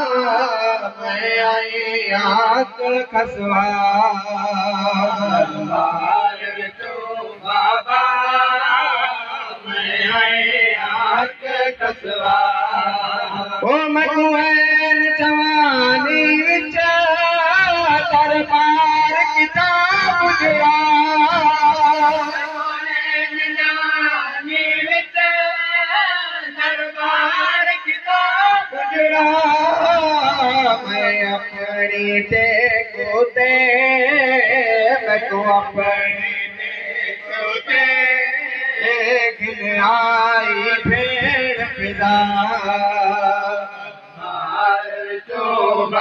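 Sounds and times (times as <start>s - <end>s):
man singing into a microphone: 0.0s - 46.0s.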